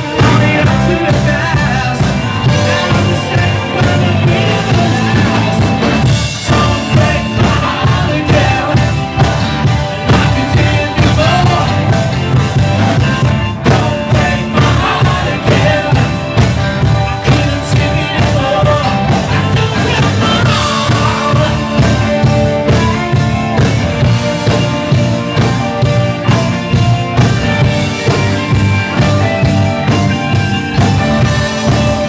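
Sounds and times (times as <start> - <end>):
lead singer singing: 0.0 - 32.0
live rock band playing: 0.0 - 32.0.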